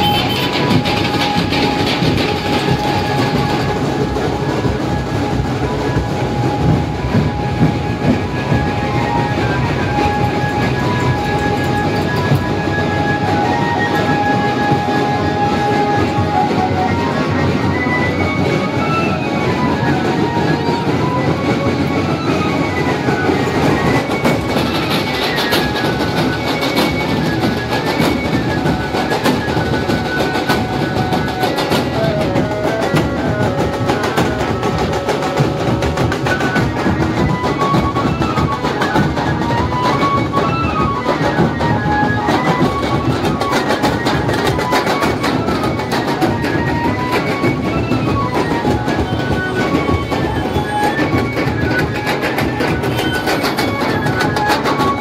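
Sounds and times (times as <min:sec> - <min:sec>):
music with fast busy drumming: 0:00.0 - 0:55.0.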